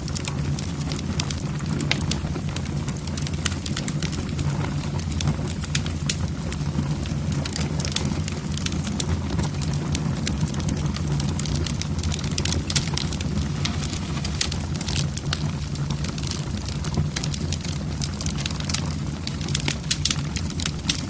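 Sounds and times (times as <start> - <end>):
logs crackling and popping: 0.0 - 21.0
low fire rumble: 0.0 - 21.0.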